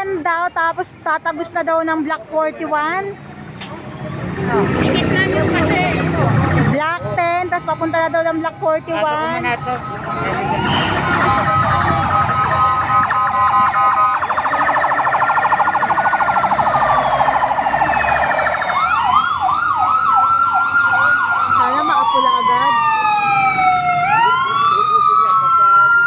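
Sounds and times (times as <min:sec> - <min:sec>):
emergency vehicle sirens: 0:00.0 - 0:26.0.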